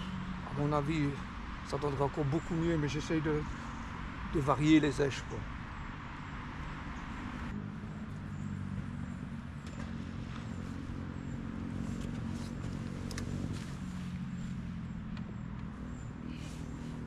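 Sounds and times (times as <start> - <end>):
motor engine low hum: 0.0 - 17.0.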